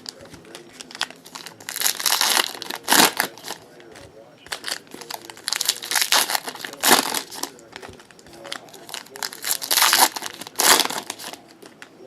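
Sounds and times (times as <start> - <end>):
plastic wrappers crinkling and tearing: 0.0 - 11.9.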